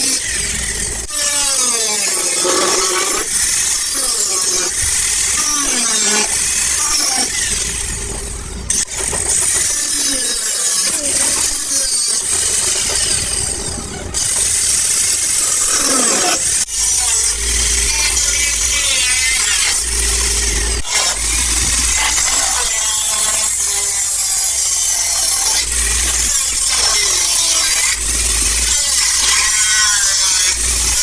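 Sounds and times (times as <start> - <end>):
power grinder whining on steel: 0.0 - 31.0.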